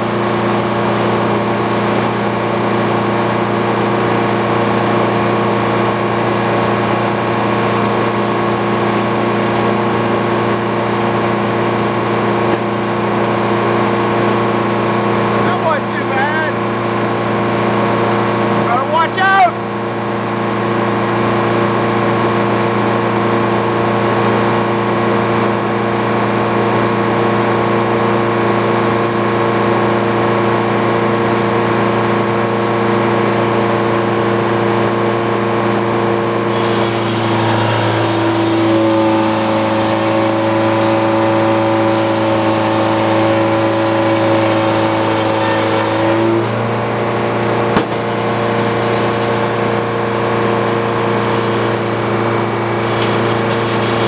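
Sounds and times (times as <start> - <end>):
sawmill running: 0.0 - 54.0.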